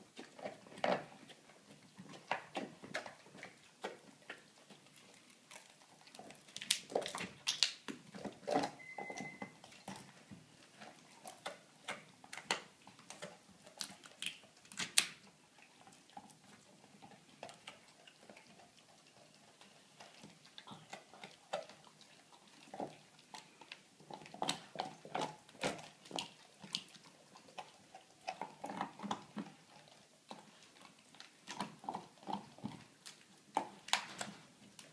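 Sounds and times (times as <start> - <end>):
dog teeth cracking on bone: 0.2 - 34.9.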